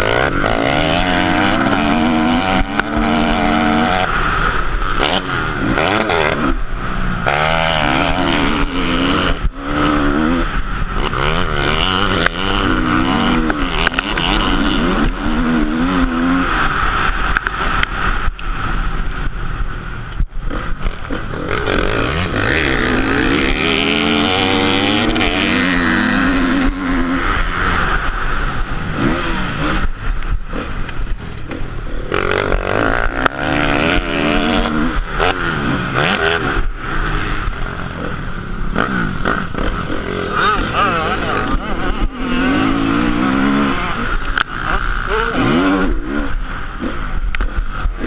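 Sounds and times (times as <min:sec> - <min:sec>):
motocross engine revving: 0:00.0 - 0:19.7, 0:20.4 - 0:48.0.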